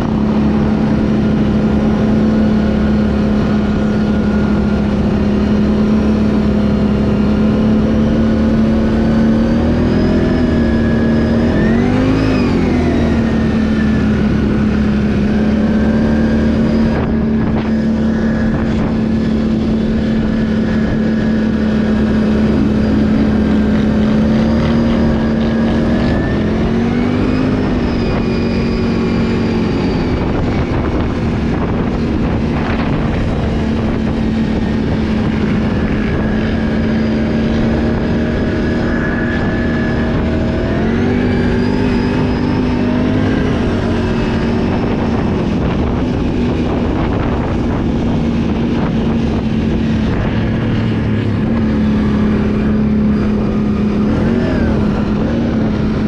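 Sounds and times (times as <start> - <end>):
atv engine accelerating: 0.0 - 56.0.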